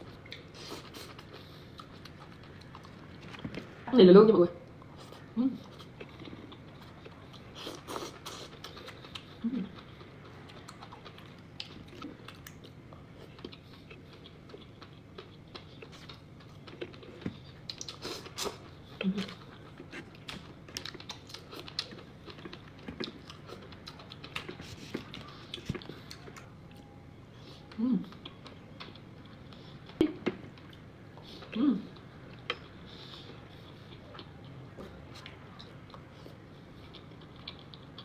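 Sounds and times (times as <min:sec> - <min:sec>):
person chewing: 0:00.0 - 0:03.7, 0:04.8 - 0:26.8, 0:27.5 - 0:38.0.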